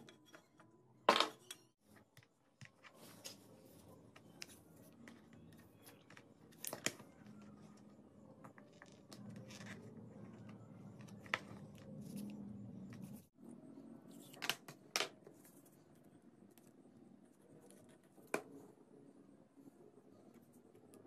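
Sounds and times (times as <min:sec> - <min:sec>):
handling objects on a tabletop: 0:00.0 - 0:21.0.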